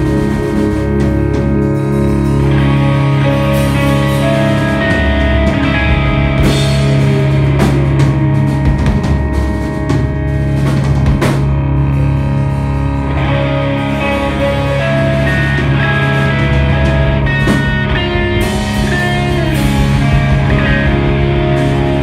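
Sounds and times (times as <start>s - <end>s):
drum kit: 0.0s - 22.0s
electric guitar chords: 0.0s - 22.0s.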